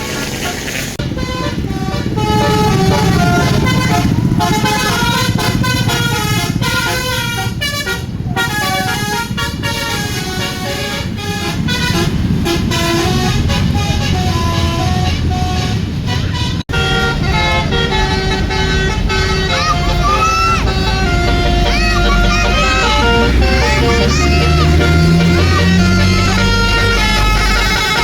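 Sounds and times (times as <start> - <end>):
bus engine running: 0.0 - 28.0
bus multi-tone horn melody: 0.0 - 28.0.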